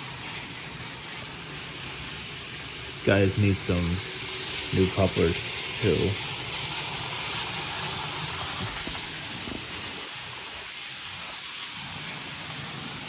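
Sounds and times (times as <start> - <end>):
model train rolling on track: 0.0 - 13.0.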